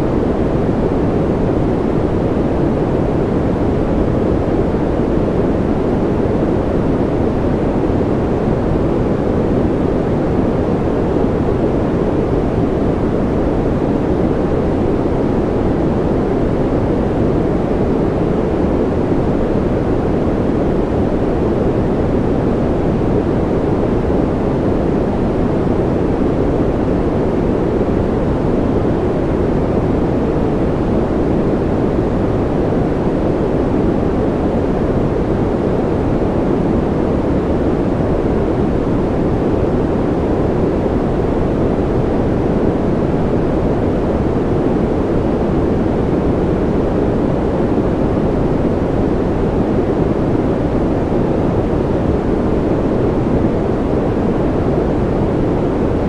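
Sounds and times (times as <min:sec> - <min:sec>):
low white noise rush: 0:00.0 - 0:56.0.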